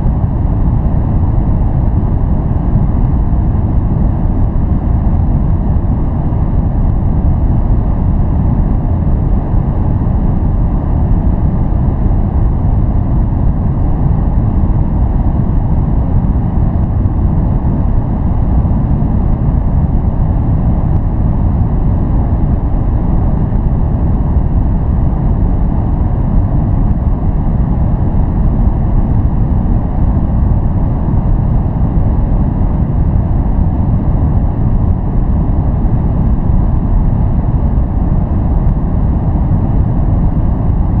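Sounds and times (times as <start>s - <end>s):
deep rushing white noise: 0.0s - 41.0s.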